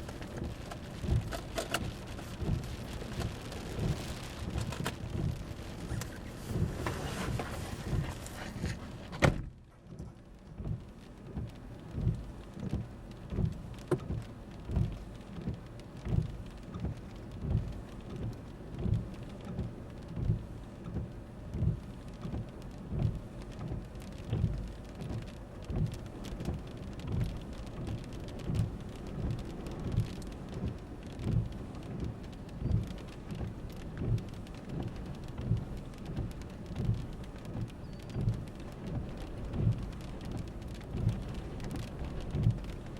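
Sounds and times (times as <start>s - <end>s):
rain falling on a vehicle: 0.0s - 42.9s.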